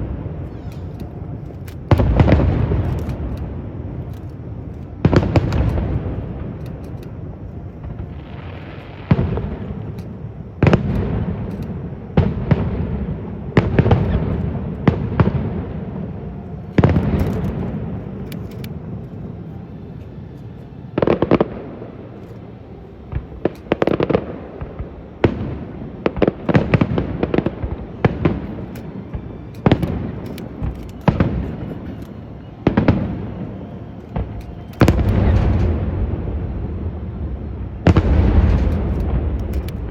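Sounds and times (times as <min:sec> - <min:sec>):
fireworks bursting: 0:00.0 - 0:06.6, 0:07.2 - 0:18.2, 0:23.0 - 0:32.0, 0:32.6 - 0:39.9.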